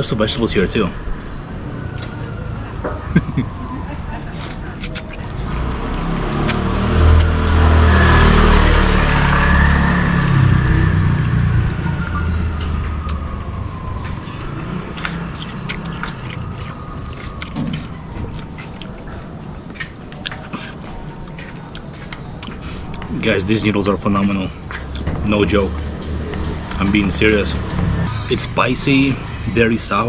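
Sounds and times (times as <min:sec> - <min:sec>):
motor vehicle passing: 0:00.8 - 0:30.0.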